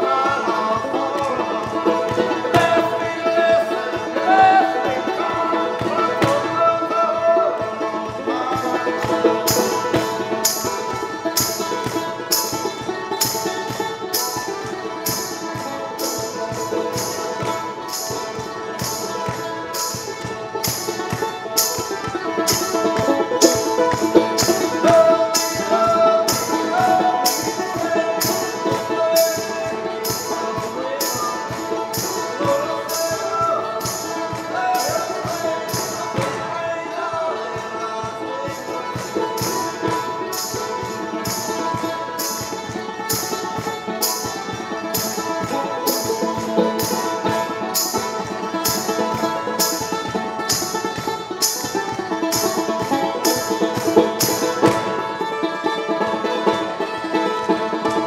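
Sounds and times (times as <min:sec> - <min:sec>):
banjo playing fast: 0:00.0 - 0:58.0
tambourine jingle: 0:00.0 - 0:58.0.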